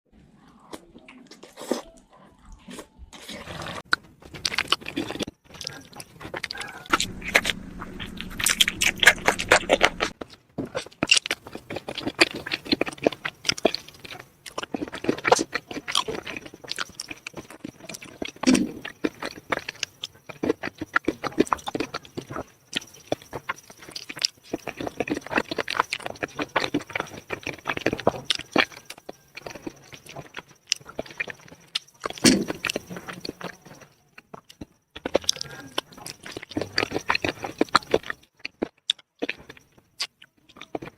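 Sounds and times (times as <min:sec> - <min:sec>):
wet chewing and crunching: 0:00.4 - 0:40.9.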